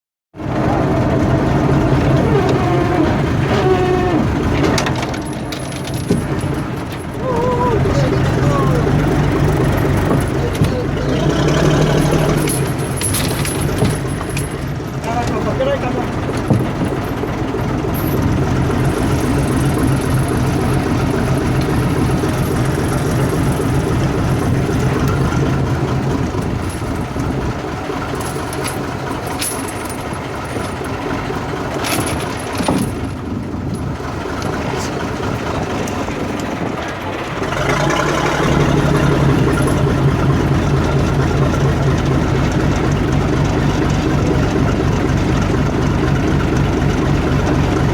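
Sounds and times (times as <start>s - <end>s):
engine running: 0.4s - 47.9s.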